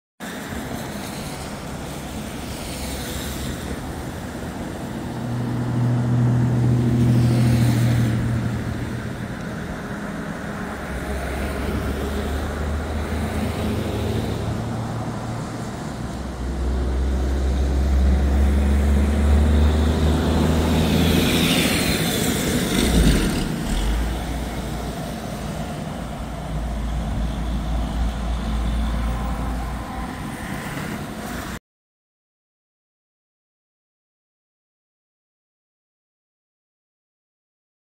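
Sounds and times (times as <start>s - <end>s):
cars and trucks driving past: 0.2s - 31.6s.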